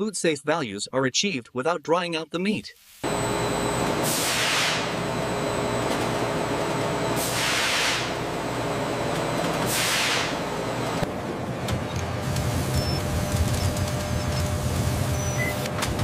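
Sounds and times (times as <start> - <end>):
conveyor mechanical running noise: 3.0 - 16.0.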